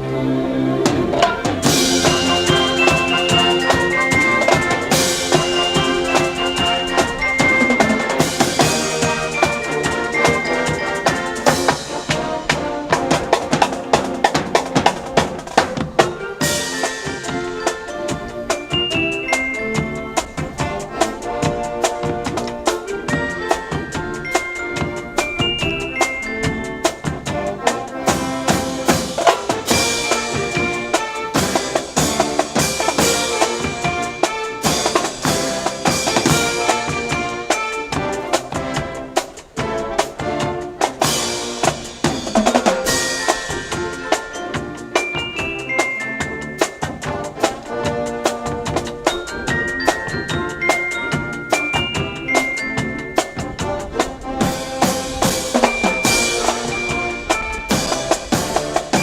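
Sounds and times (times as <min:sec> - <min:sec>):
band music: 0:00.0 - 0:59.0
brass instruments playing: 0:00.0 - 0:59.0
drum kit beat: 0:00.8 - 0:59.0.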